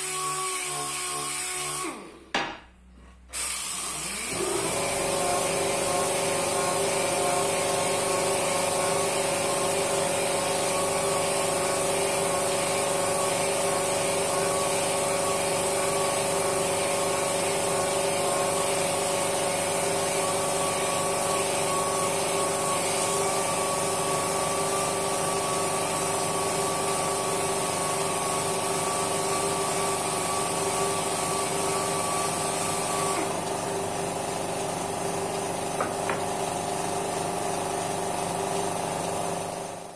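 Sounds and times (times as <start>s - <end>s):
orbital sander on wood: 0.0s - 2.1s, 3.6s - 34.5s.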